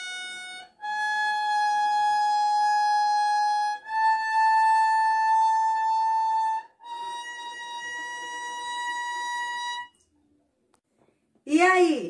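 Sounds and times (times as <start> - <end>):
violin long bowed notes: 0.0 - 10.0.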